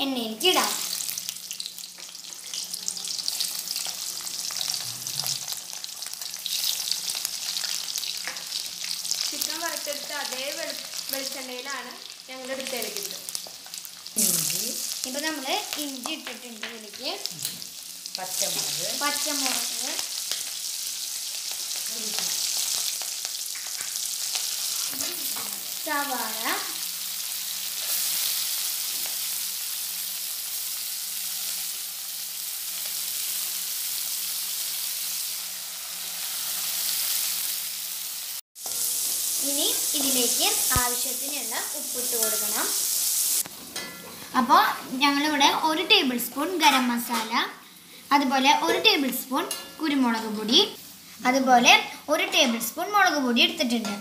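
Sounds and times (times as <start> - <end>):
onions sizzling in oil: 0.0 - 54.0.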